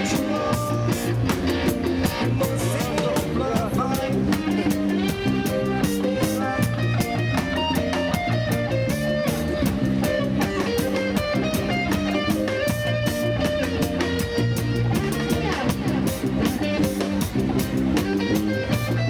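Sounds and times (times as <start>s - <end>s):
guitar: 0.0s - 19.0s
reggae band playing instrumental: 0.0s - 19.0s.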